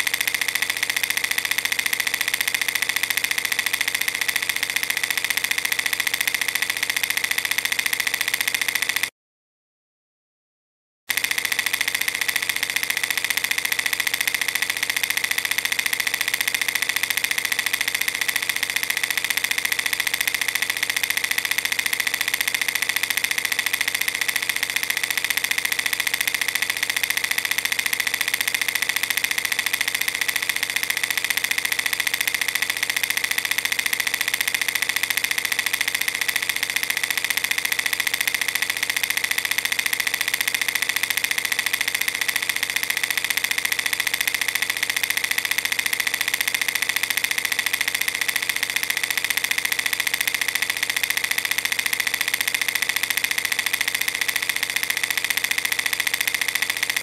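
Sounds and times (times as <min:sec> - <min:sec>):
film projector clattering: 0:00.0 - 0:09.1, 0:11.1 - 0:57.0.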